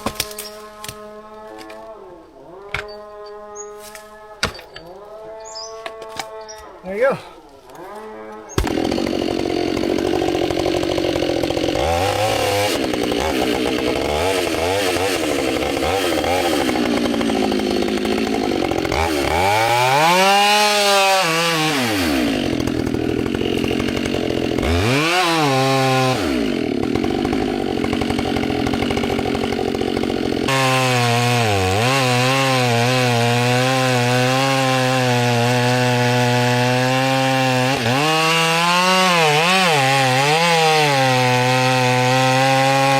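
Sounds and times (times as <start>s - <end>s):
chainsaw revving and cutting wood: 0.0s - 1.9s, 2.5s - 42.9s.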